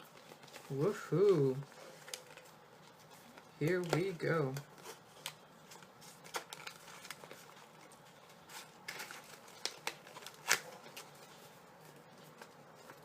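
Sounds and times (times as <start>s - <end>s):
cardboard box and packs rustling: 0.0s - 13.0s.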